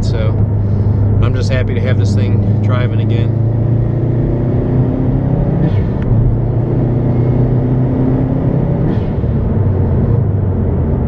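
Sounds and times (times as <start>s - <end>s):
car engine cruising drone: 0.0s - 11.0s
road noise inside car: 0.0s - 11.0s.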